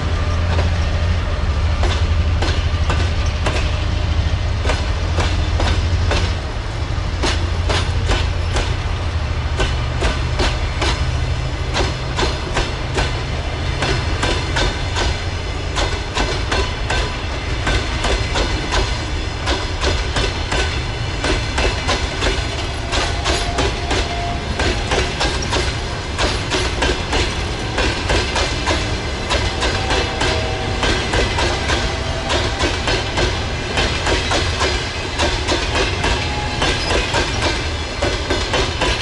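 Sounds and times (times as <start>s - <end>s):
train low rumble: 0.0s - 39.0s
train wheels clacking over rail joints: 0.0s - 39.0s.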